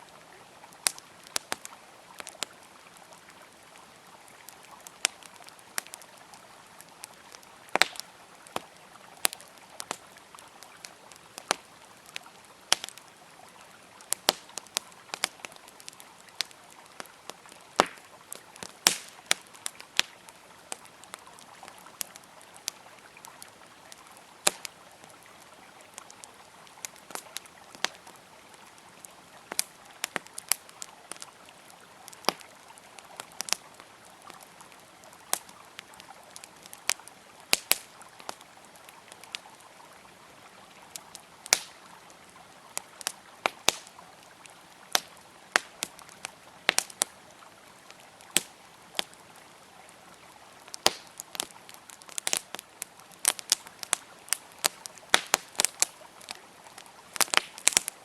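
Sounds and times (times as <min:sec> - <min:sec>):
campfire wood crackling and popping: 0:00.0 - 0:58.0
river flowing: 0:00.0 - 0:58.0.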